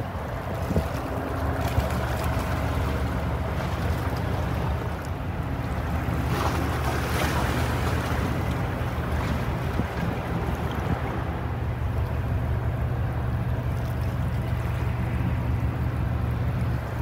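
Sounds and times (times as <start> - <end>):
boat engine rumble: 0.0 - 17.0
water noise: 0.0 - 17.0
wind: 0.0 - 17.0.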